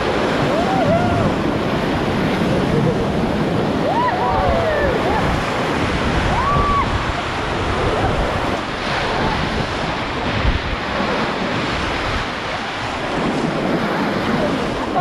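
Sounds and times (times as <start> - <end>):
rushing whitewater: 0.0 - 15.0
wind buffeting microphone: 0.0 - 15.0.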